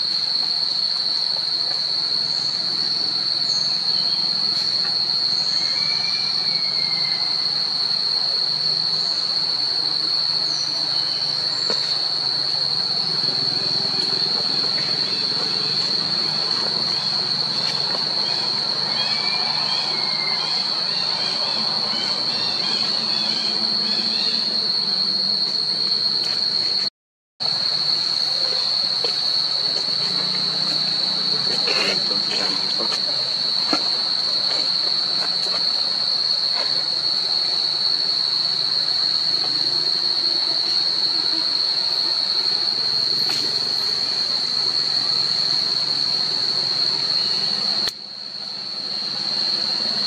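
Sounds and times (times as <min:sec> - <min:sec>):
cicadas droning: 0:00.0 - 0:50.0.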